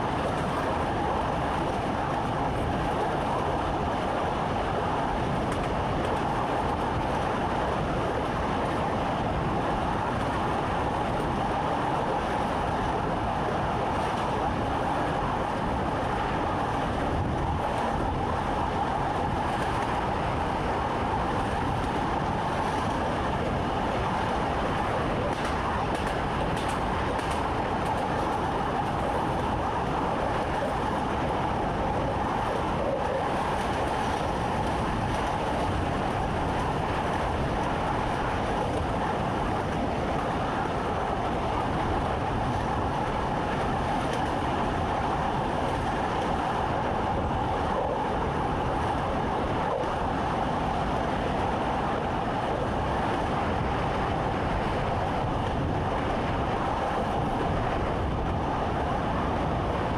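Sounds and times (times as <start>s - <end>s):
constant hum: 0.0s - 59.9s
train running: 0.0s - 59.9s.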